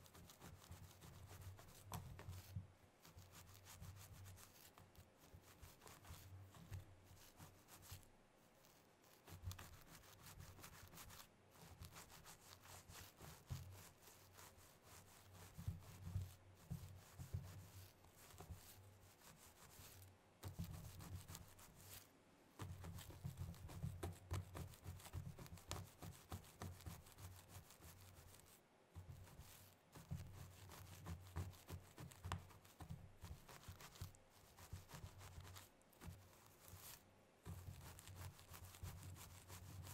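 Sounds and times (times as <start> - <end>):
nails scratching through hair: 0.0 - 39.9.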